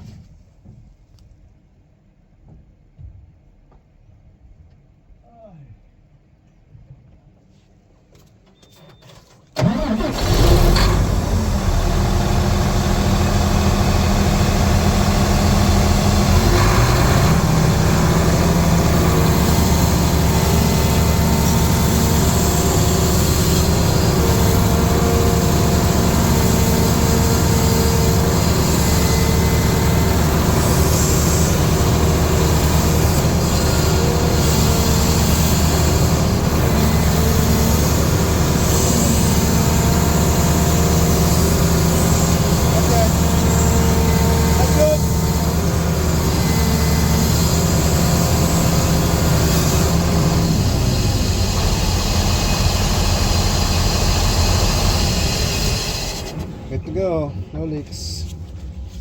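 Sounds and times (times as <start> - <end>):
excavator diesel engine running: 9.6 - 58.2.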